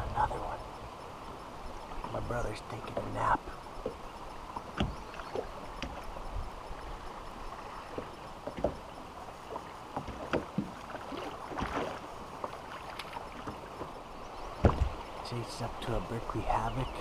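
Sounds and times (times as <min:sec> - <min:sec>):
waves lapping against metal boat: 0:00.0 - 0:17.0.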